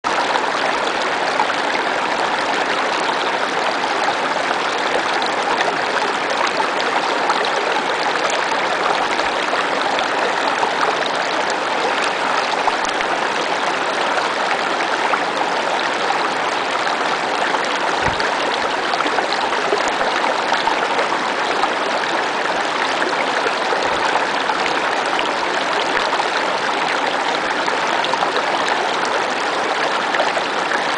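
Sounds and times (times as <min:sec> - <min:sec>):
stream running over rocks: 0:00.1 - 0:30.9.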